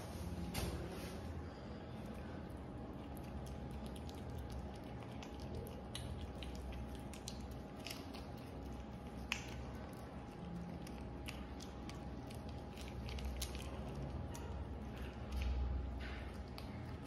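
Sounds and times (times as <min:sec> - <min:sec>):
low steady hum: 0:00.0 - 0:17.0
kitten licking wet clicks: 0:02.0 - 0:17.0.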